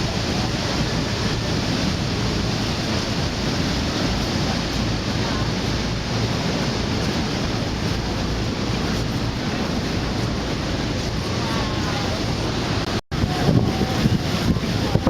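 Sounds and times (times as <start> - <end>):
waterfall roaring: 0.0 - 15.0
wind buffeting microphone: 0.0 - 15.0.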